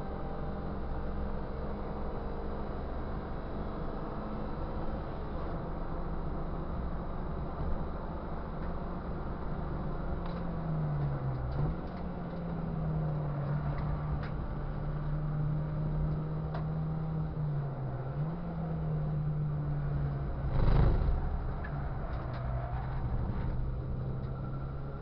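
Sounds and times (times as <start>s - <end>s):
race car engine at speed: 0.0s - 25.0s.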